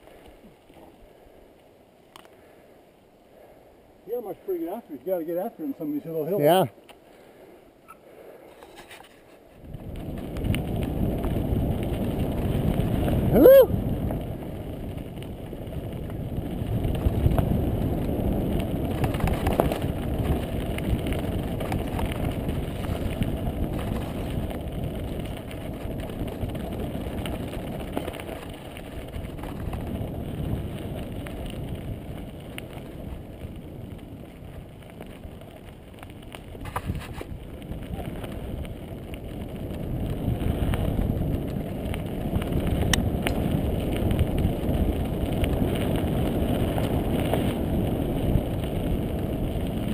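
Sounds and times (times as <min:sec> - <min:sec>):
bike tyres rumbling on dirt: 0:02.4 - 0:49.9
wind on microphone: 0:08.8 - 0:35.5, 0:36.4 - 0:49.9.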